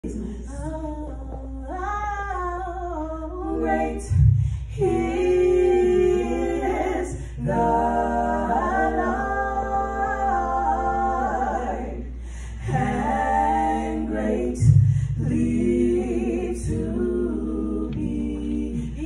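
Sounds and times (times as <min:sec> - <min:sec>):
women singing a cappella: 0:00.0 - 0:19.0.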